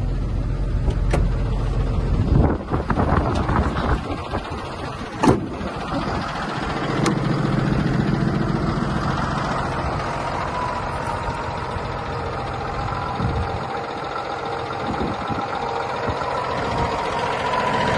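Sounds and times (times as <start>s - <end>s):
diesel truck idling: 0.0s - 17.9s.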